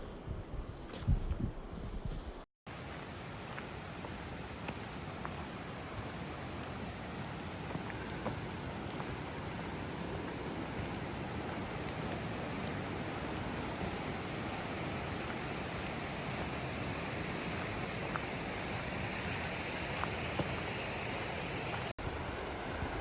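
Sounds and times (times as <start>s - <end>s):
water rushing: 2.7s - 23.0s.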